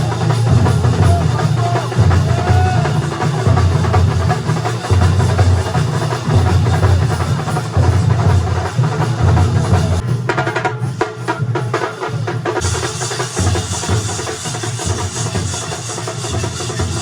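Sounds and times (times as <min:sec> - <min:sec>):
sharp drum strikes: 0:00.0 - 0:11.7, 0:12.5 - 0:17.0
loud percussion drums: 0:00.0 - 0:17.0.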